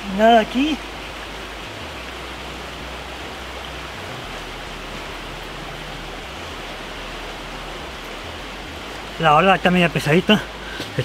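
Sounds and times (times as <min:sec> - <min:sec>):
fast river rushing: 0:00.0 - 0:11.0.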